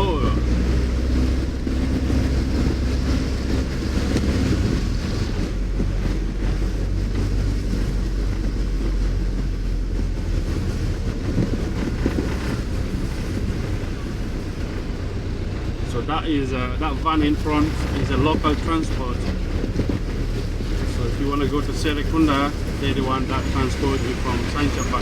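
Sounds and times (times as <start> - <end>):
low engine rumble: 0.0 - 25.0
tyres rushing on wet road: 0.0 - 25.0.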